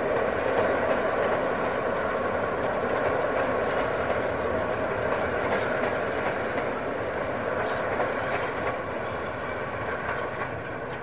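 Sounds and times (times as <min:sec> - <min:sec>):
train wheels rolling on rails: 0:00.0 - 0:11.0.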